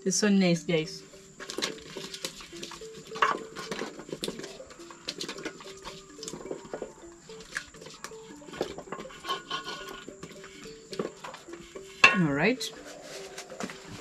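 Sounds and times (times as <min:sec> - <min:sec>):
wooden spoon scraping metal bowl: 0:01.4 - 0:14.0.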